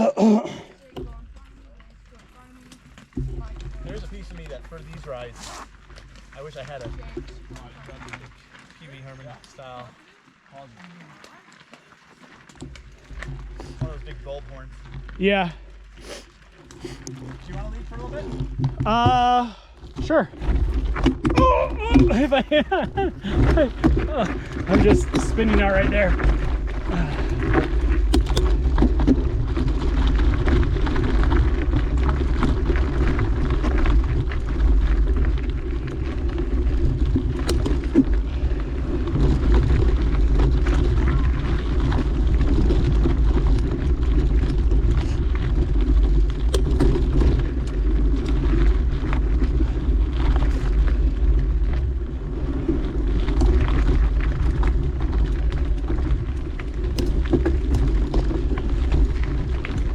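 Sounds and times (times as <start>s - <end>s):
bike clicking and rattling: 0.0s - 59.9s
bike tyres rumbling on dirt: 0.0s - 59.9s.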